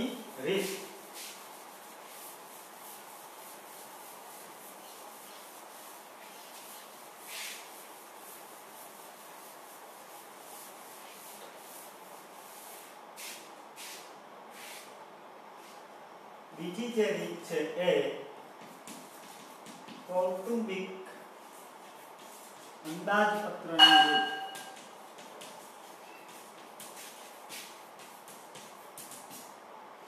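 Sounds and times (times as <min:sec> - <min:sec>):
duster rubbing chalkboard: 0:00.0 - 0:14.9, 0:18.5 - 0:20.6, 0:21.3 - 0:23.6, 0:24.6 - 0:29.6.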